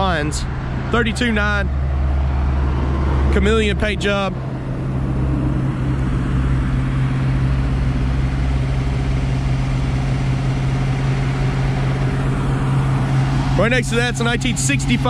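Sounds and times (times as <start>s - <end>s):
engine idling: 0.0s - 15.0s
outdoor noise: 0.0s - 15.0s.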